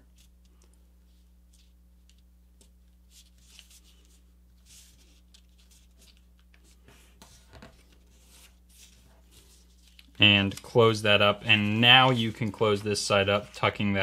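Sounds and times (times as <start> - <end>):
paper rustling and creasing: 0.1 - 14.0.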